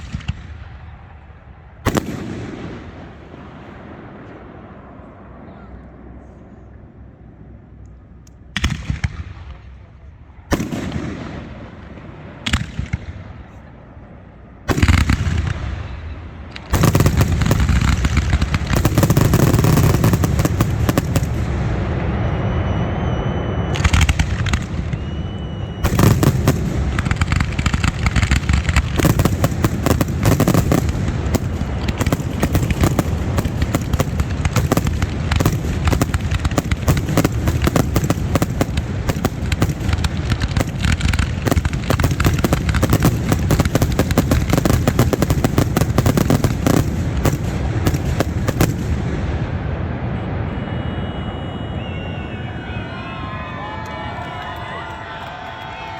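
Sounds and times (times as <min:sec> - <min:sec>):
fireworks banging and crackling: 0:00.0 - 0:05.4, 0:08.4 - 0:13.7, 0:14.7 - 0:50.8.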